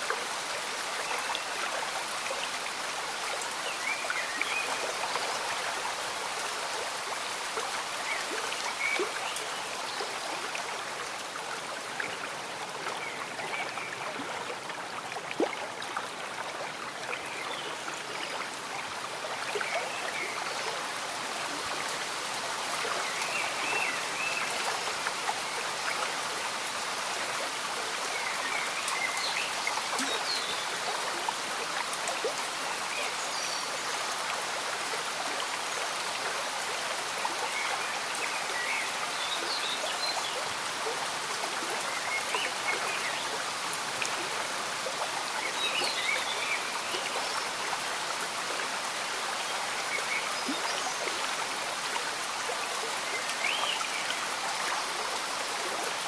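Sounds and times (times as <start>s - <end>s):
steady rain: 0.0s - 56.0s
stream running: 0.0s - 56.0s.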